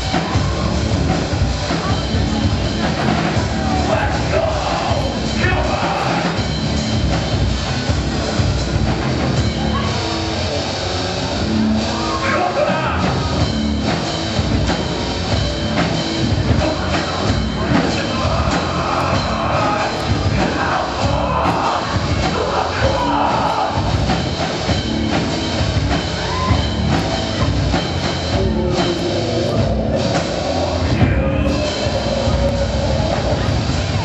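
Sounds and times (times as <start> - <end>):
bass guitar: 0.0 - 34.0
drum kit: 0.0 - 34.0.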